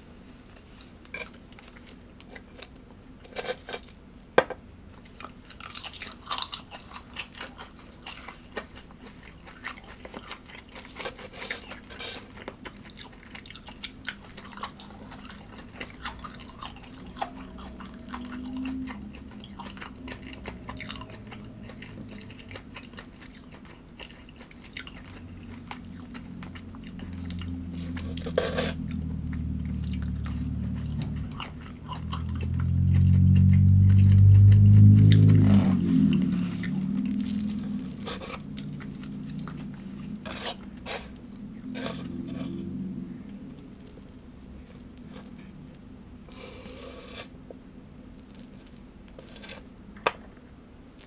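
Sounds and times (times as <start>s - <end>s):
person chewing crunchy food: 5.0s - 49.7s.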